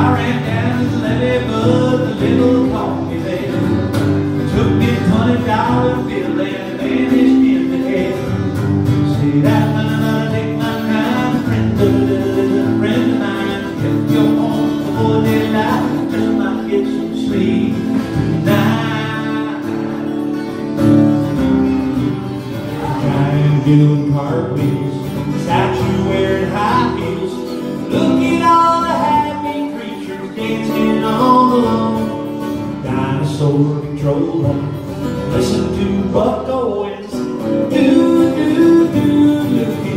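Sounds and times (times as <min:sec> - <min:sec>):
person singing: 0:00.0 - 0:20.6, 0:22.6 - 0:39.9
acoustic guitar: 0:00.0 - 0:39.9.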